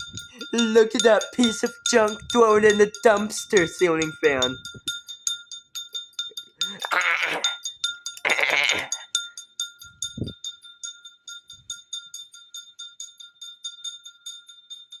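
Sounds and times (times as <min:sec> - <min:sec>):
wobbling ceiling fan ticking: 0:00.0 - 0:15.0.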